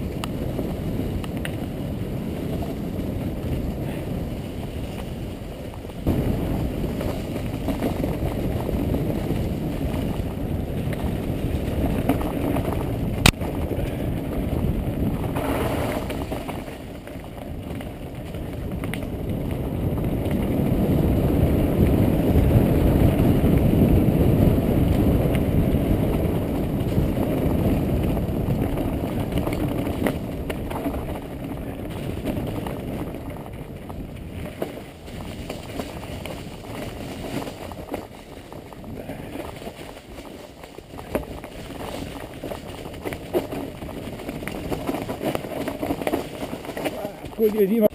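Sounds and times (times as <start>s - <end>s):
bike tyres rumbling on trail: 0.0s - 47.9s
wind buffeting microphone: 0.0s - 47.9s.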